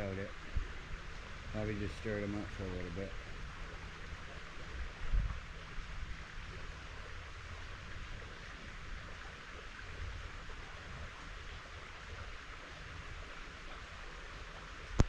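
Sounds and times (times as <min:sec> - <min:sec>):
wind buffeting microphone: 0:00.0 - 0:13.8
running stream water: 0:00.0 - 0:15.0.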